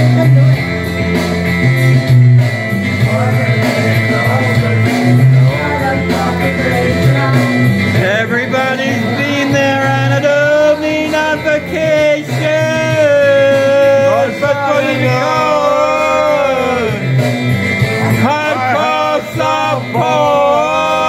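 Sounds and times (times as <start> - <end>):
amplified backing track: 0.0 - 21.0
person singing into microphone: 3.0 - 17.2, 18.0 - 21.0.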